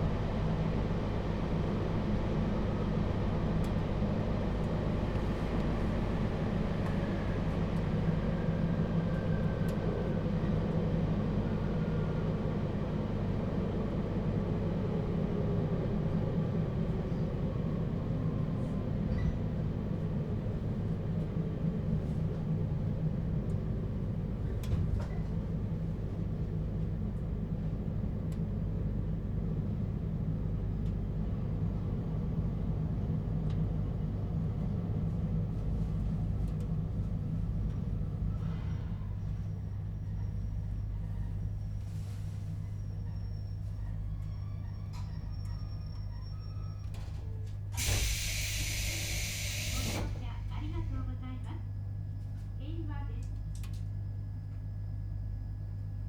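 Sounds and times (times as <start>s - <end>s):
train wheels rumbling on rail: 0.0s - 51.1s.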